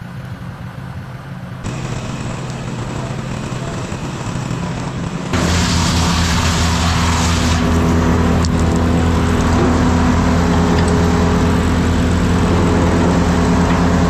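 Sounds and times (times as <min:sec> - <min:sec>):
strong hiss: 0:01.6 - 0:13.7
work machine engine running: 0:01.6 - 0:14.0.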